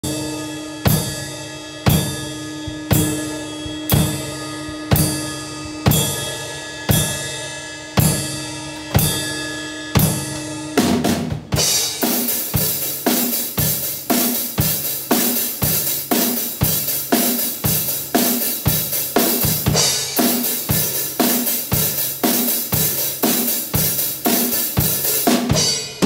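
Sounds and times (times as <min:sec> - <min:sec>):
cymbal ringing: 0:00.0 - 0:26.0
drum kit played with sticks: 0:00.0 - 0:26.0.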